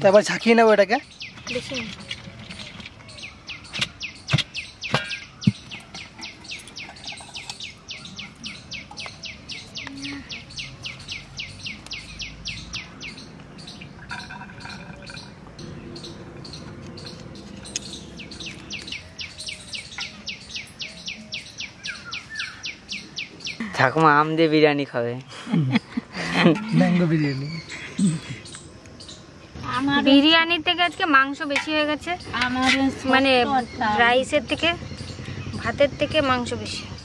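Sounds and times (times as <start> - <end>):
bird chirping: 0.0 - 37.0.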